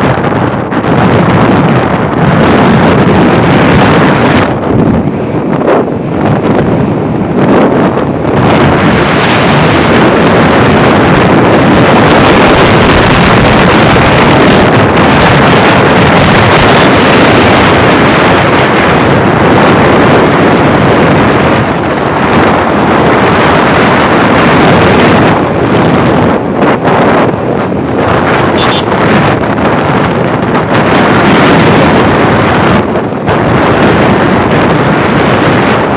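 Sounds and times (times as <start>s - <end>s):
road noise: 0.0s - 35.9s
wind rushing over microphone: 0.0s - 35.9s.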